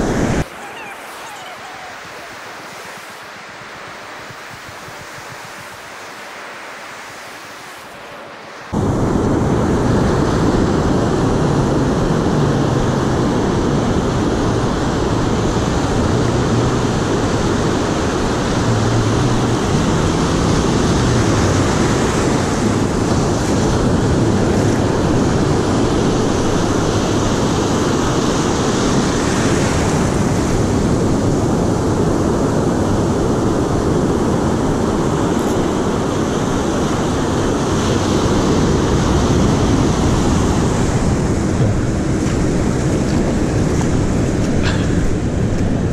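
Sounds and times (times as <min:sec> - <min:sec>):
wind buffeting microphone: 0:00.0 - 0:06.3, 0:08.7 - 0:45.9
ocean surf breaking: 0:00.0 - 0:45.9.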